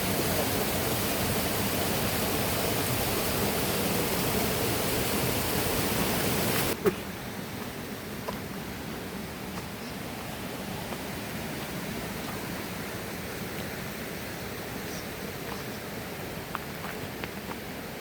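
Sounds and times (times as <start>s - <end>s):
rush of flowing water: 0.0s - 18.0s.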